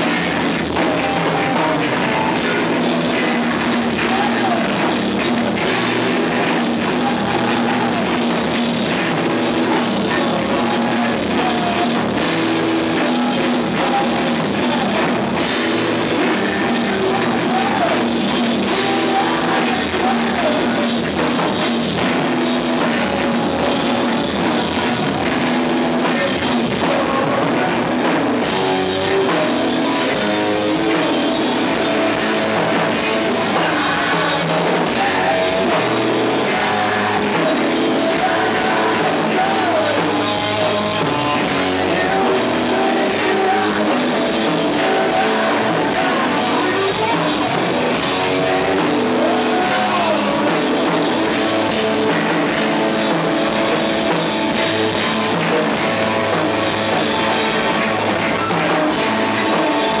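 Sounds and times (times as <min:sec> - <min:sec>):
drum kit: 0:00.0 - 1:00.0
electric guitars: 0:00.0 - 1:00.0.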